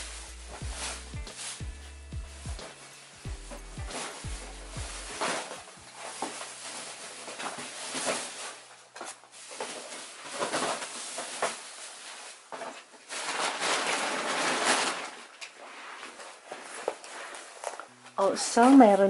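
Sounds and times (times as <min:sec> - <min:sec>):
rustling and scuffing: 0:00.0 - 0:19.0.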